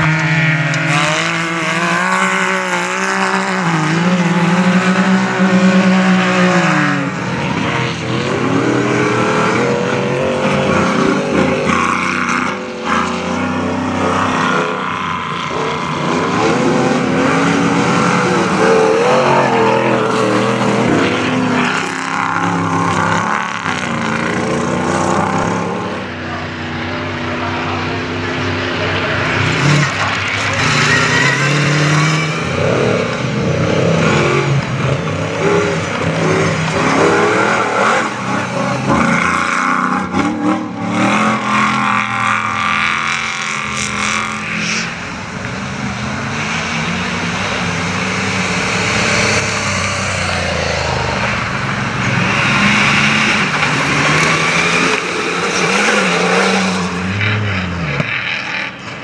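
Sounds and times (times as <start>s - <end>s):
rally car engines revving: 0.0s - 59.0s
tyres churning dirt: 0.0s - 59.0s.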